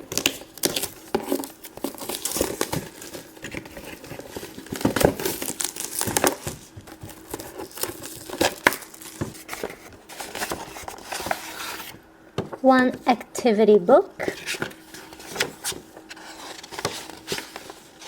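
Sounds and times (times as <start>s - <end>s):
plastic packaging crinkling: 0.0s - 11.9s, 14.2s - 18.0s.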